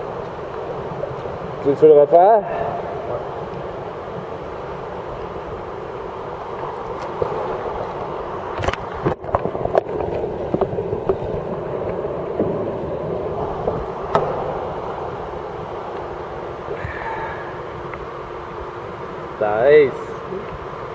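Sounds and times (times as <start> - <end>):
steady rushing noise: 0.0 - 20.9
water splashing around kayak: 0.0 - 20.9.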